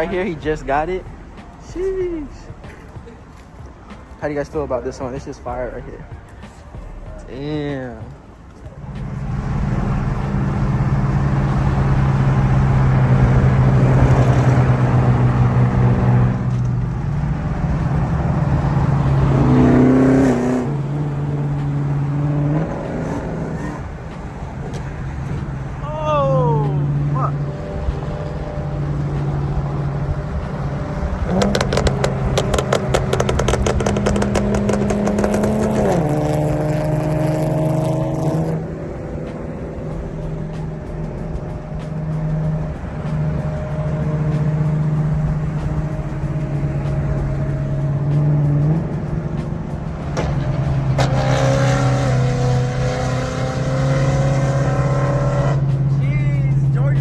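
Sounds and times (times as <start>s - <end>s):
car engine idling and revving: 0.0s - 57.0s
sharp exhaust pops: 8.0s - 25.9s, 26.6s - 57.0s.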